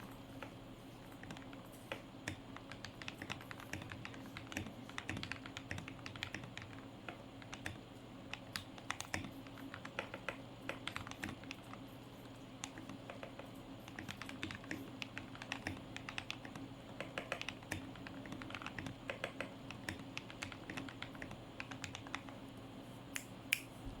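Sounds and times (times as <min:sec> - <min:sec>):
mechanical keyboard typing: 0:01.1 - 0:11.8, 0:12.6 - 0:22.4.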